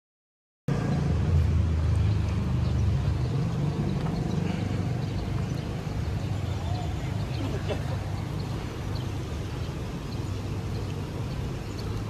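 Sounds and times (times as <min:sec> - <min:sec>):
low city ambience rumble: 0:00.7 - 0:12.0.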